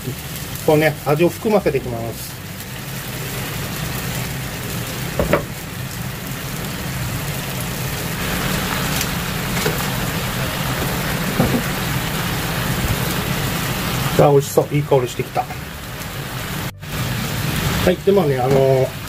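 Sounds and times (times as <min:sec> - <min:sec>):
sauce bubbling and sizzling in pan: 0:00.0 - 0:19.0.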